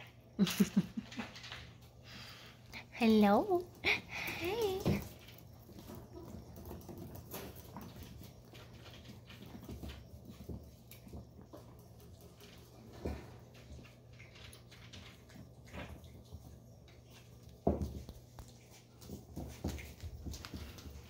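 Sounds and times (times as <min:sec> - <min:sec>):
puppies tapping on tile floor: 0:00.0 - 0:21.0.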